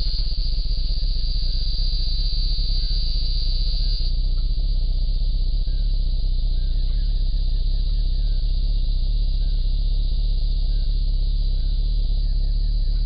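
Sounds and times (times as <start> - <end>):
high insect buzz: 0.0 - 13.0
low recording hum: 0.0 - 13.0.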